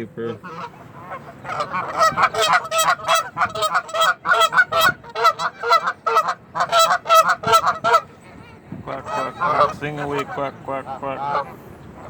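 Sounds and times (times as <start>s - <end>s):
waterfowl quacking: 0.2s - 12.0s.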